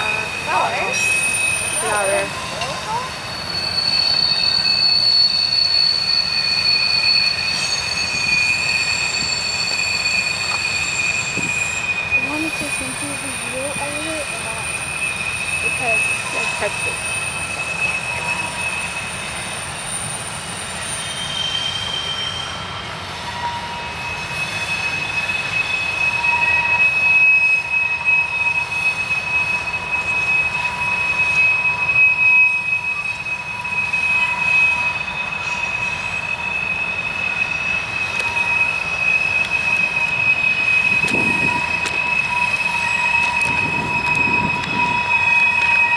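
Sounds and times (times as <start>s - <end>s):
rumble and rattle of train wheels: 0.0s - 45.9s
train wheel flanges squealing: 0.0s - 45.9s.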